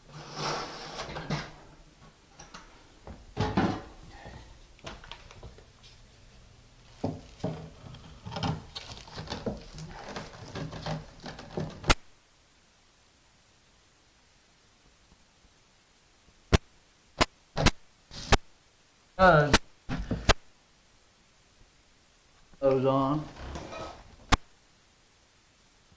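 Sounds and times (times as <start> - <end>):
faint hiss: 0.0 - 10.4, 11.8 - 25.9.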